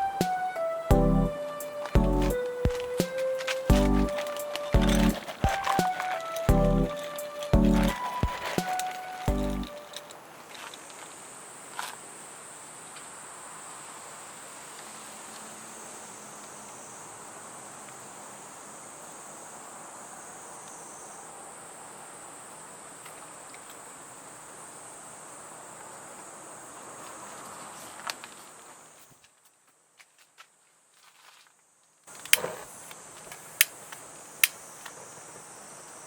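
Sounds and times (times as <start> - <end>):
insects trilling: 0.0 - 28.7, 32.1 - 36.0.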